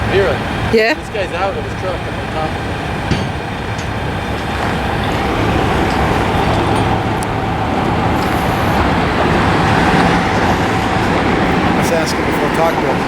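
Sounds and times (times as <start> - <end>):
faint constant whine: 0.0 - 13.0
heavy truck engine running: 0.0 - 13.0.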